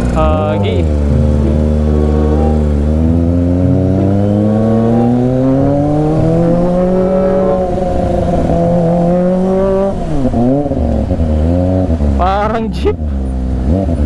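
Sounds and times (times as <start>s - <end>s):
motorcycle engine revving under load: 0.0s - 14.0s.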